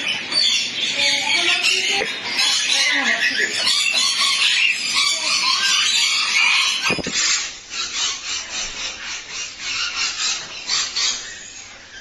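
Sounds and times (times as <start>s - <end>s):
birds chirping: 0.0s - 12.0s
parrot screeching: 0.0s - 12.0s.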